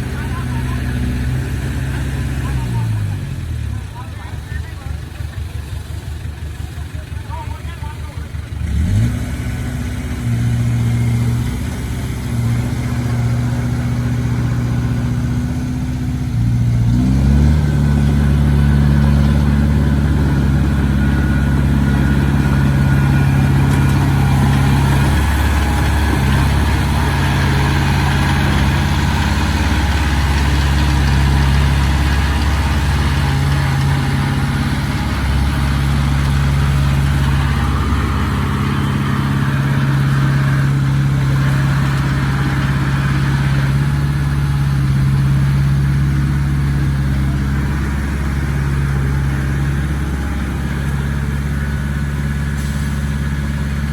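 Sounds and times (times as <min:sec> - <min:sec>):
heavy diesel engine revving: 0:00.0 - 0:53.9.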